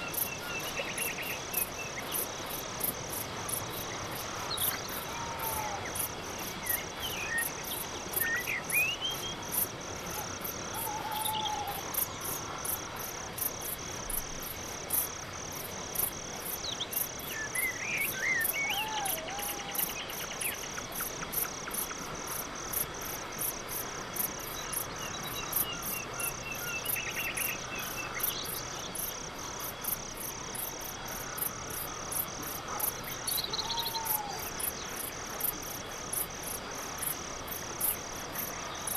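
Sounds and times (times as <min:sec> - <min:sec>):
crickets chirping: 0:00.0 - 0:38.9
soft background hiss: 0:00.0 - 0:38.9.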